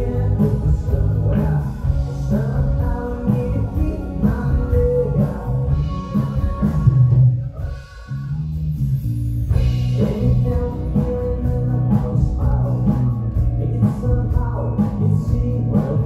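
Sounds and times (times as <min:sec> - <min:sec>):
person singing: 0:00.0 - 0:08.5, 0:09.5 - 0:16.0
live pop-rock band playing: 0:00.0 - 0:16.0.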